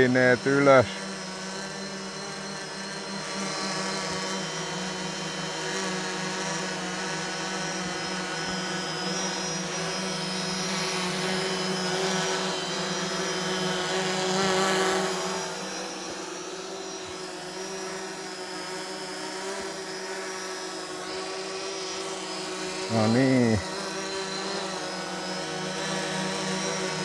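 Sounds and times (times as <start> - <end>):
drone propellers buzzing: 0.0 - 27.0.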